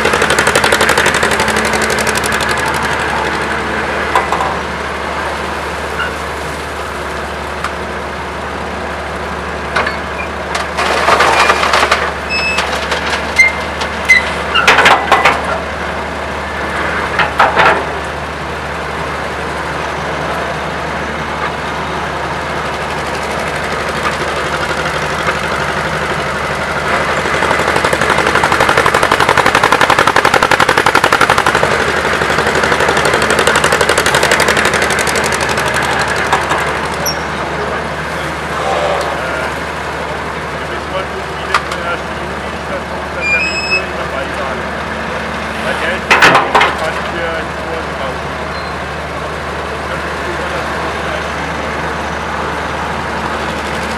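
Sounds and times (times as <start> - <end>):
diesel excavator engine knocking: 0.0 - 5.5, 7.2 - 38.0, 39.0 - 43.2, 45.9 - 53.9.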